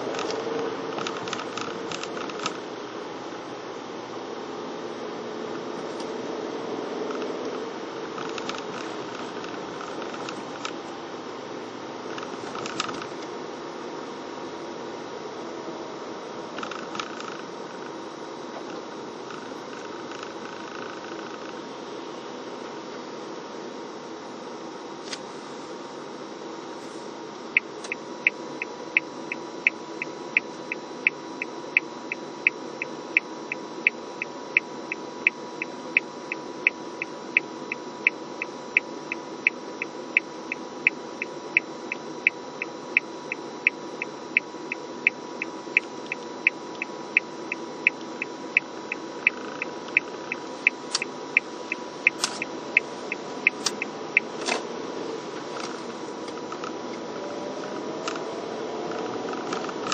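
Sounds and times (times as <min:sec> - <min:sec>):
car engine idling hum: 0:00.0 - 0:59.9.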